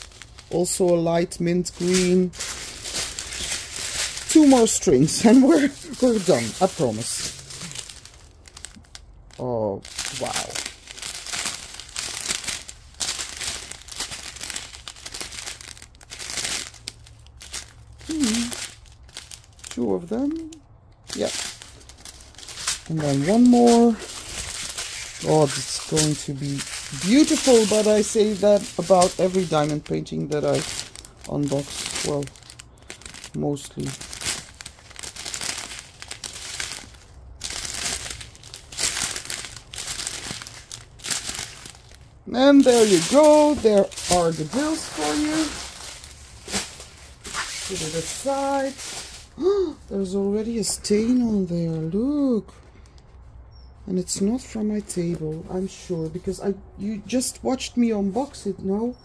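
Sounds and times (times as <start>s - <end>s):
plastic bags crinkling: 0.0s - 52.4s.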